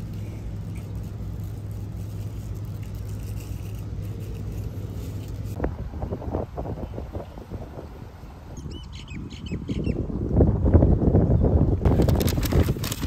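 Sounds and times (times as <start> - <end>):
low vehicle engine rumble: 0.0 - 13.0.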